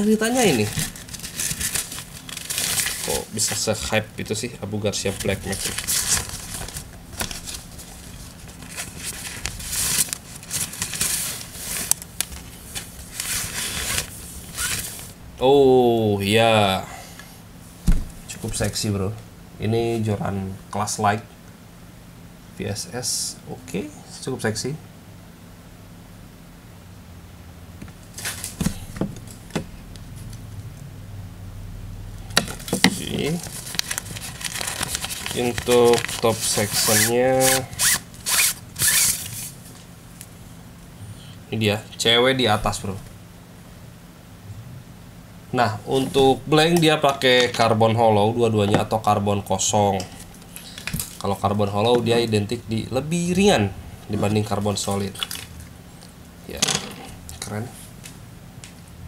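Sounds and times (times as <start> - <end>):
low room hum: 0.0 - 59.0.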